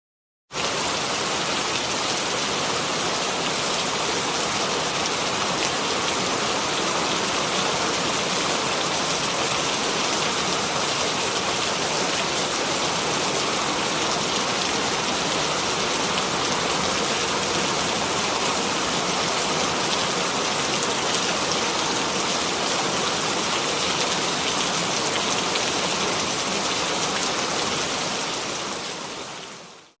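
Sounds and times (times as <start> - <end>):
light rain falling: 0.6 - 30.0.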